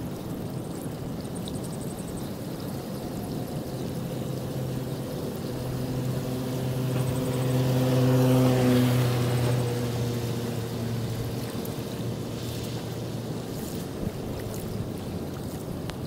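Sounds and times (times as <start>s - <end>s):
tyres hissing through water: 0.0s - 16.0s
vehicle engine hum: 0.0s - 16.0s.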